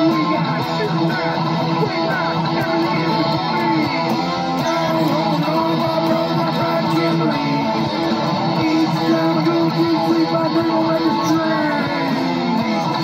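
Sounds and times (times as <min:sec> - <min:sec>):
electric guitar picking notes: 0:00.0 - 0:13.0.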